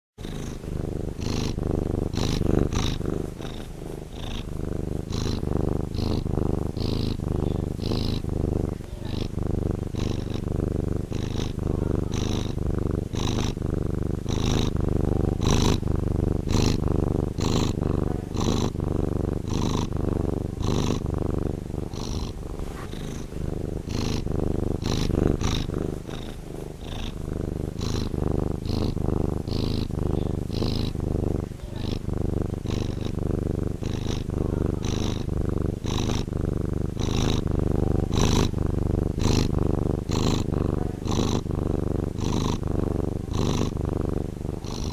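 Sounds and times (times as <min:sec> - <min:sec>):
cat purring: 0:00.2 - 0:44.9.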